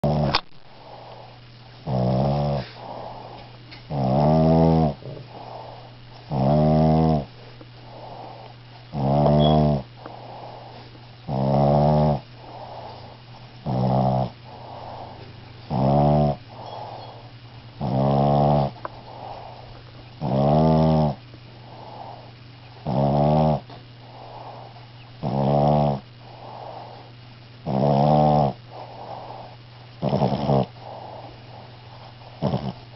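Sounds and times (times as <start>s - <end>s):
pet snoring: 0.0s - 32.9s.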